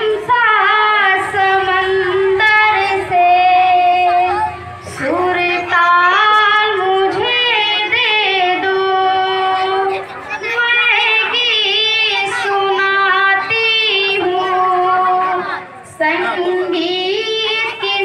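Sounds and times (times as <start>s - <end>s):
girl singing into microphone: 0.0s - 18.0s.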